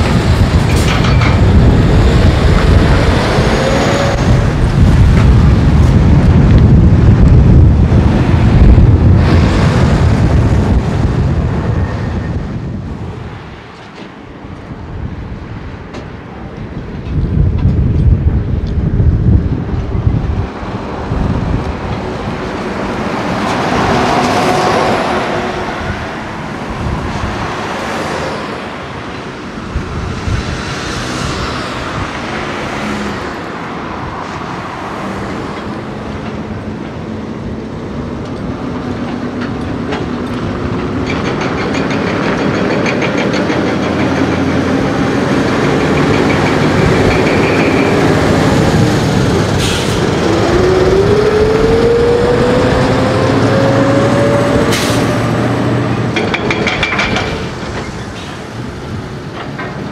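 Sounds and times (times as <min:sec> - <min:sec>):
heavy truck diesel engine passing: 0:00.0 - 0:15.9, 0:18.2 - 0:59.9
wind gusts on microphone: 0:00.0 - 0:59.9.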